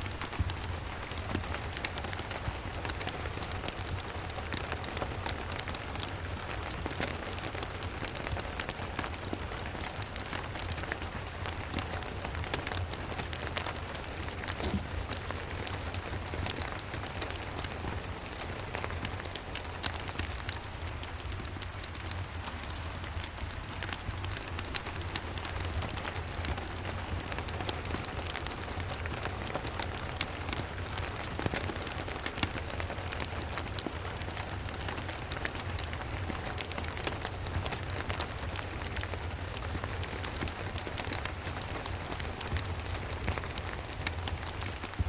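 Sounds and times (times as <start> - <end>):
steady rain: 0.0 - 45.0
wood fire crackling: 0.0 - 45.0.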